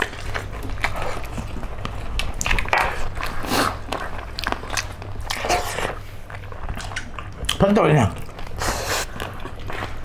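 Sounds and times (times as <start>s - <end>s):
chewing chicken feet: 0.0s - 10.0s.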